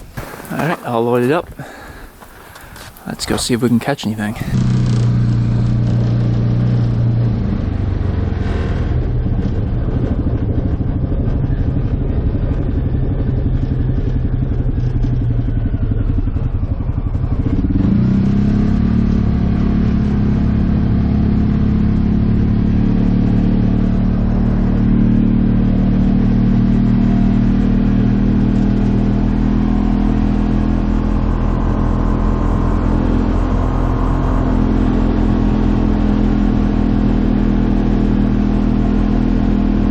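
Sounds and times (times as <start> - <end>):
utility vehicle engine running: 2.6 - 39.9.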